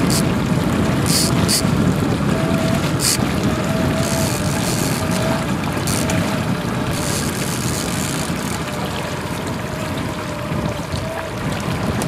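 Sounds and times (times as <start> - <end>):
boat motor noise: 0.0 - 12.0
water along hull: 0.0 - 12.0.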